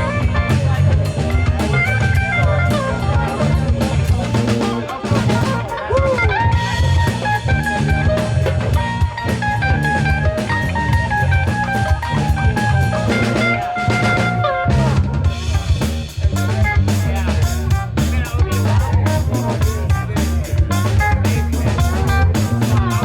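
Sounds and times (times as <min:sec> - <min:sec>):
drum kit groove: 0:00.0 - 0:23.0
electric bass: 0:00.0 - 0:23.0
lead electric guitar bending notes: 0:00.0 - 0:23.0.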